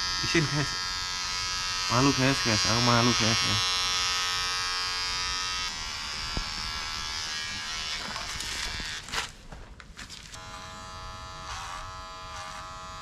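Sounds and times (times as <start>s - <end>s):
electric hair clipper buzzing: 0.0s - 9.1s, 10.4s - 13.0s.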